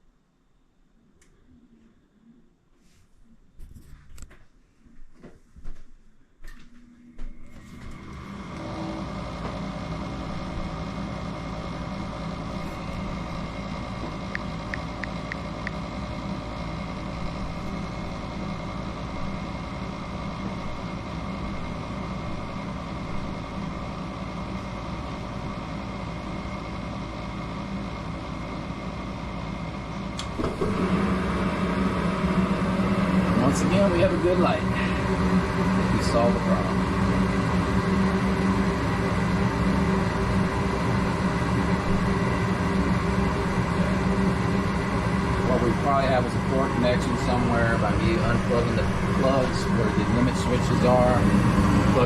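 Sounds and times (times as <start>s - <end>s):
furnace motor humming: 6.4s - 52.0s.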